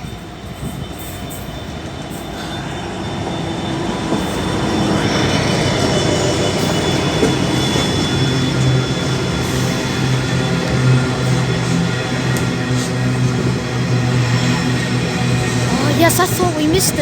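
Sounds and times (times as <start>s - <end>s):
steady train hum: 0.0s - 17.0s
train wheels on rails: 0.0s - 17.0s.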